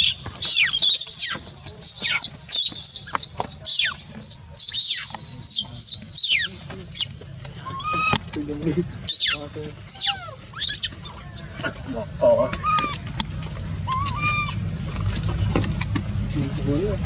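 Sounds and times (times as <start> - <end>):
baby monkey distress screams: 0.0 - 13.2, 13.8 - 14.6.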